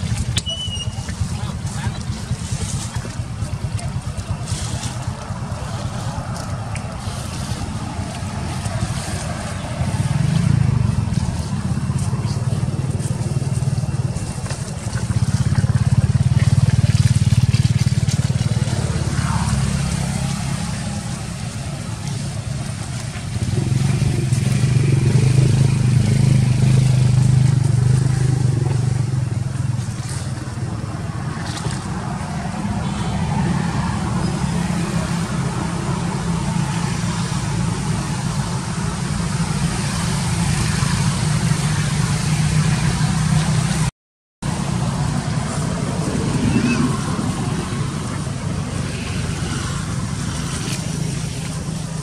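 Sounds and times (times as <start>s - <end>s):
motor engine humming: 0.0s - 52.0s.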